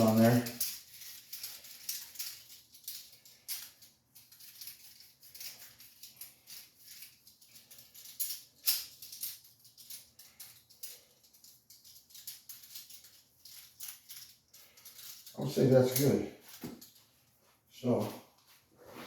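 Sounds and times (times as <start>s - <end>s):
small metallic clicks and rattles: 0.0s - 17.0s.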